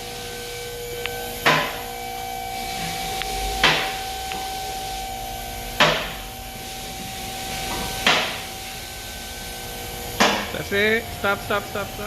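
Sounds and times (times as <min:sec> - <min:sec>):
vehicle lift humming: 0:00.0 - 0:12.0.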